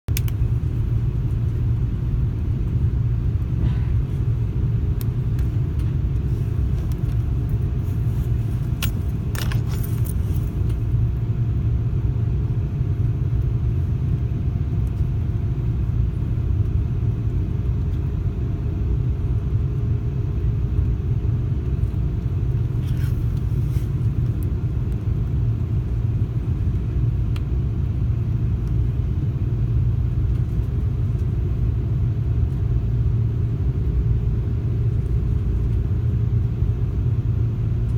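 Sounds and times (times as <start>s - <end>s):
airliner rumble: 0.1s - 37.9s.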